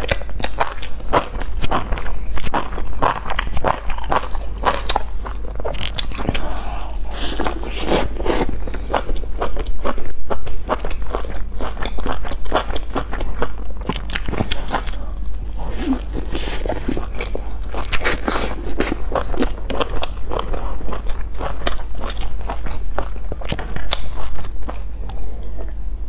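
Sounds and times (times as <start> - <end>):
crunchy chewing: 0.0 - 25.8.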